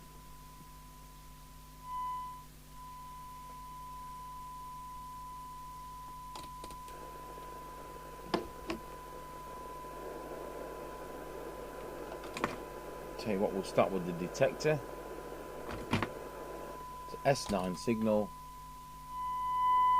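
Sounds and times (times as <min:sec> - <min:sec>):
receiver noise hiss: 0:00.0 - 0:19.9
steady test tone: 0:00.0 - 0:19.9.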